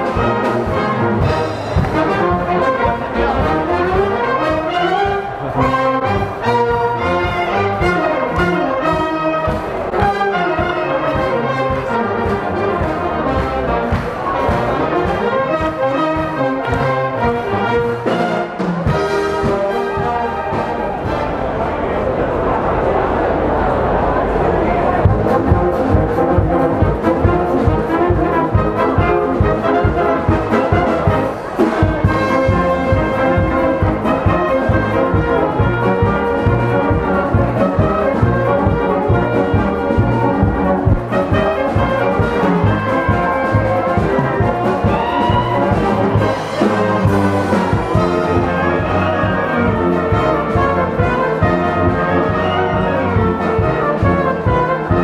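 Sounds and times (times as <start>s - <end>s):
bass and drums beat: 0.0s - 21.2s, 25.0s - 52.5s
brass and wind band playing: 0.0s - 23.2s, 24.3s - 55.0s.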